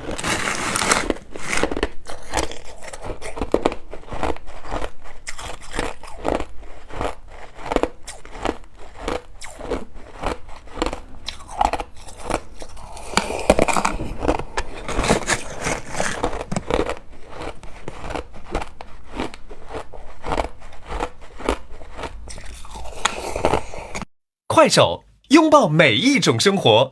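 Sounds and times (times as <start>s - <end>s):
crushed ice crunching: 0.0s - 23.9s.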